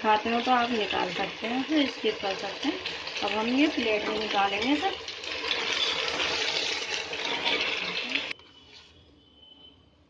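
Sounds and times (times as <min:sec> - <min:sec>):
vegetables sizzling in oil: 0:00.0 - 0:08.4.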